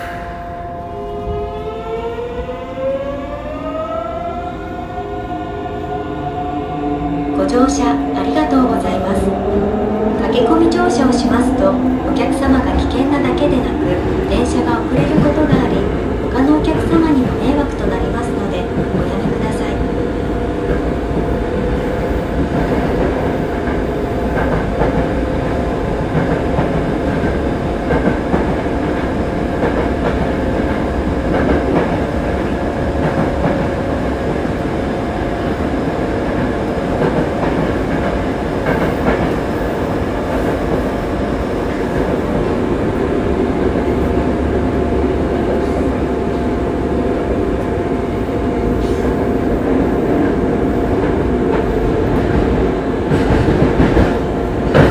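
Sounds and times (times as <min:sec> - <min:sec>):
train wheels rumbling on rail: 0:00.0 - 0:54.9
track clacks: 0:07.4 - 0:34.8, 0:35.4 - 0:47.8, 0:48.6 - 0:54.9.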